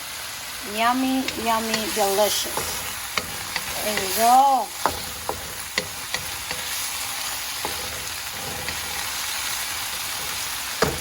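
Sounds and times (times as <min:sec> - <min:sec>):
food sizzling in a pan: 0:00.0 - 0:11.0
utensil clicking against pan: 0:01.2 - 0:11.0.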